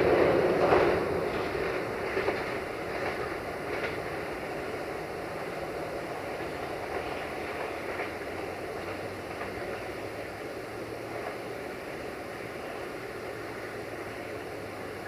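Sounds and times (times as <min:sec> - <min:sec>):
faint rail clicks: 0:00.0 - 0:15.0
train wheels rumbling on rails: 0:00.0 - 0:15.0.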